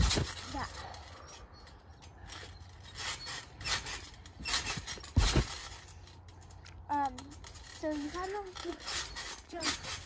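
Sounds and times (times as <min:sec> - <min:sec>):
trampoline springs jingling: 0:00.0 - 0:10.0.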